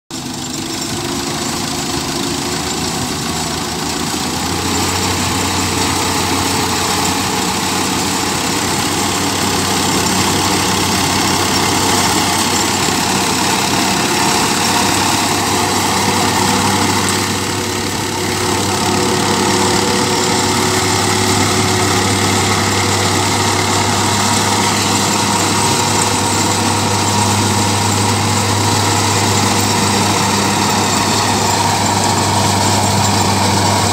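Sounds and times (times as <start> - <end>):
tractor engine running under load: 0.1 - 33.9.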